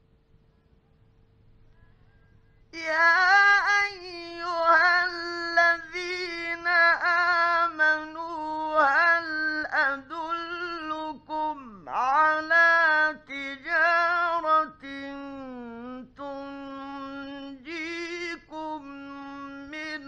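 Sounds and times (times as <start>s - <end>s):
faint steady hum: 0.0s - 20.0s
man chanting melodically: 2.8s - 20.0s.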